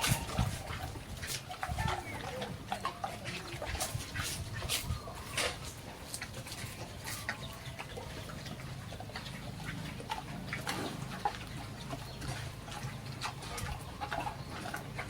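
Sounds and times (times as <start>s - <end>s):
farm animals calling: 0.0s - 15.0s.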